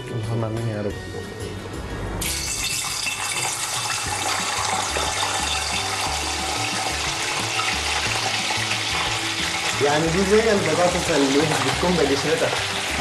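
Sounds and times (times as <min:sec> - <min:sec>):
potatoes sizzling in hot oil: 0:02.4 - 0:13.0.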